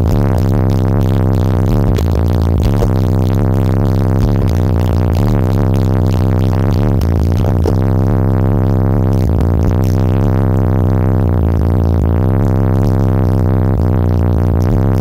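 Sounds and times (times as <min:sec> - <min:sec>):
bass-heavy synthesizer music: 0:00.0 - 0:15.0.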